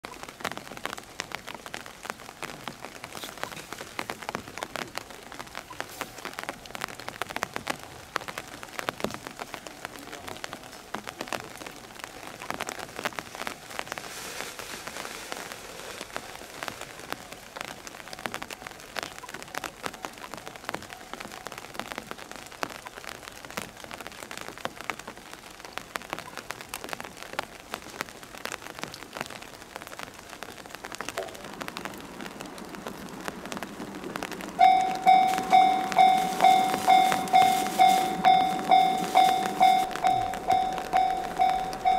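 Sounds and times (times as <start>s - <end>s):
raindrops hitting close by: 0.0s - 41.9s
steady rain: 0.0s - 41.9s.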